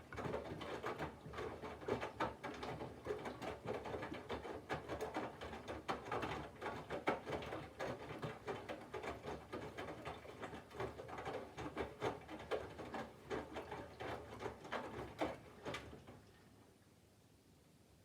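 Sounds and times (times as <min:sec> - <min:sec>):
washing machine drum sloshing: 0:00.0 - 0:16.5.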